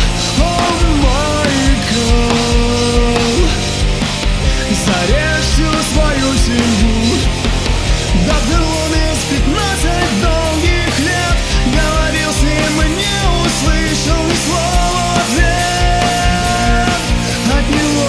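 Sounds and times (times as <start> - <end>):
instrumental rock music: 0.0 - 18.0.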